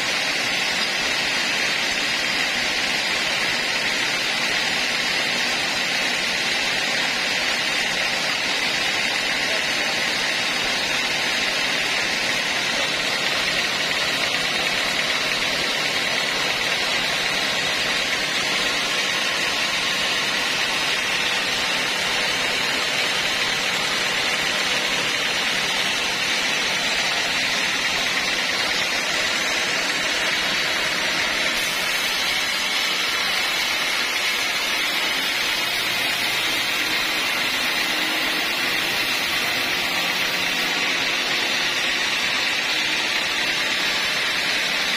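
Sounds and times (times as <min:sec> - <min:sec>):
sawmill whirring: 0:00.0 - 0:44.9.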